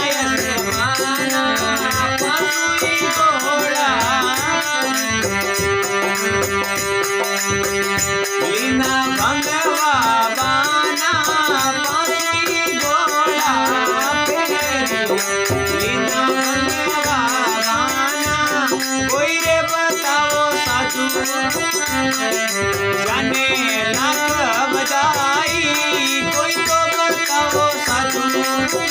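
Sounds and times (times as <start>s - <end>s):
percussion beat with rattling: 0.0s - 28.9s.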